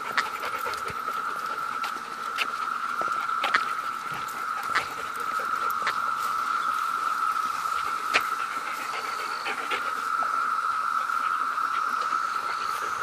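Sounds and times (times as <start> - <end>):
cicada chorus drone: 0.0 - 13.0.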